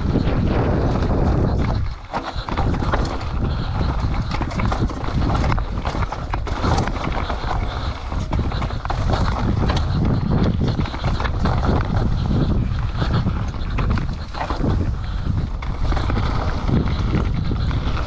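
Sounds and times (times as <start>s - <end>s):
bike clattering over rough ground: 0.0s - 18.0s
wind rumbling on microphone: 0.0s - 18.0s.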